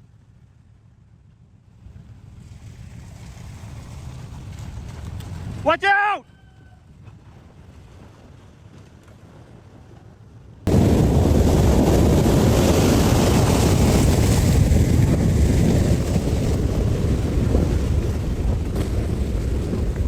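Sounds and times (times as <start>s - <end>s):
strong wind buffeting microphone: 1.6s - 9.8s, 10.6s - 20.0s.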